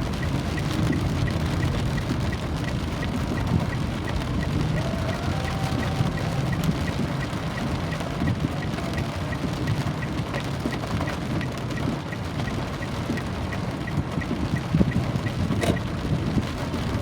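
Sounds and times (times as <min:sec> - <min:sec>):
faint ticking: 0:00.0 - 0:17.0
steady rain falling: 0:00.0 - 0:17.0.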